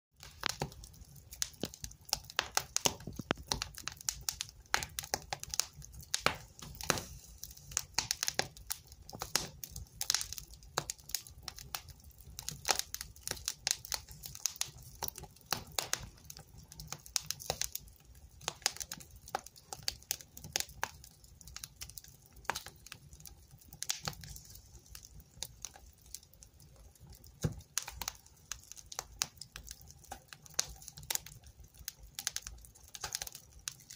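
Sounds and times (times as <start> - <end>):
low roar of burning flames: 0.2 - 33.9
wood fire crackling: 0.2 - 33.9.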